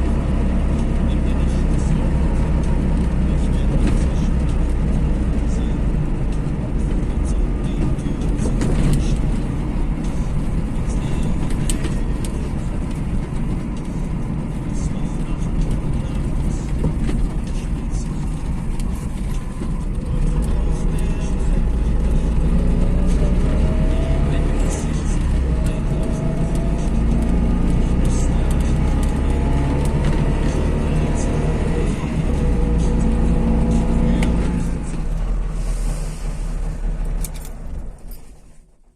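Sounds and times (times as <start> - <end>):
two-stroke car engine rumbling: 0.0 - 38.9
sharp clicks and rattles: 0.1 - 35.6, 36.3 - 38.8.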